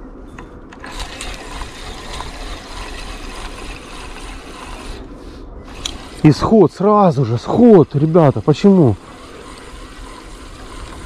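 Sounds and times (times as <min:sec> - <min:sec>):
fishing reel whirring: 0:00.7 - 0:11.0.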